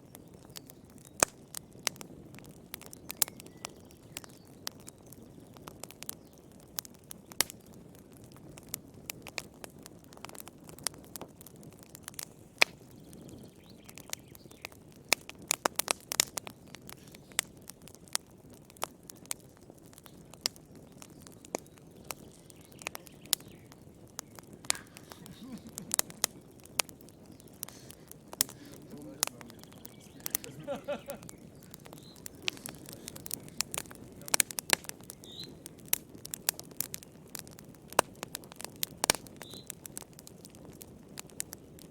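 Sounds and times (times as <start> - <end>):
low rumble of flames: 0.0 - 41.9
wood fire crackling: 0.0 - 41.9.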